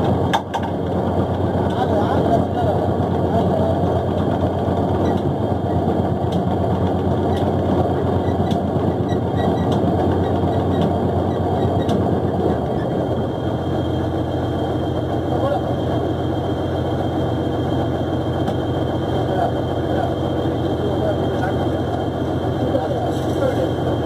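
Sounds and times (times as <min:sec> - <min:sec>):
boat engine and winch humming: 0:00.0 - 0:24.0.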